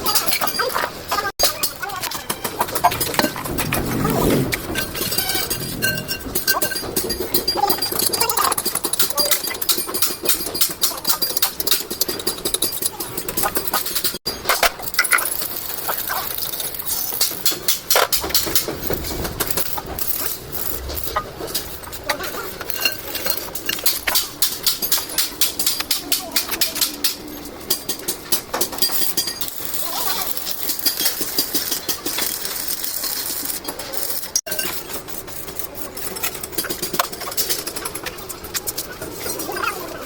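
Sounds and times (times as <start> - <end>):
hand tools clinking on metal: 0.0 - 40.0.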